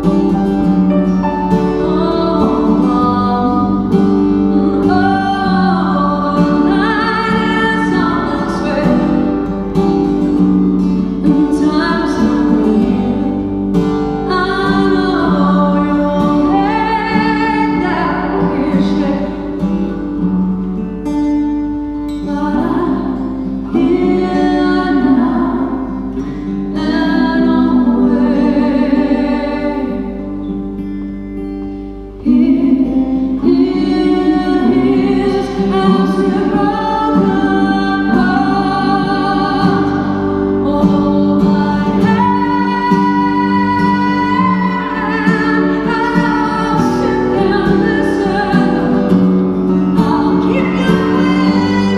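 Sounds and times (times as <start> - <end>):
acoustic guitar: 0.0 - 51.9
woman singing: 1.4 - 20.1, 22.1 - 30.6, 32.2 - 51.9.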